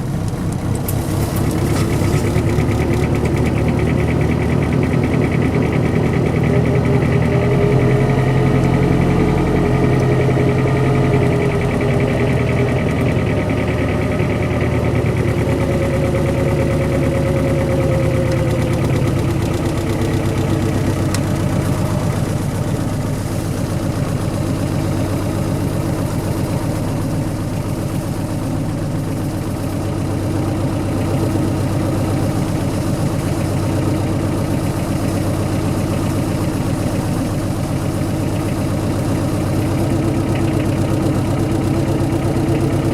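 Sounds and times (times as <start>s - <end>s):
car engine idling: 0.0s - 42.9s
whine over engine: 0.0s - 42.9s.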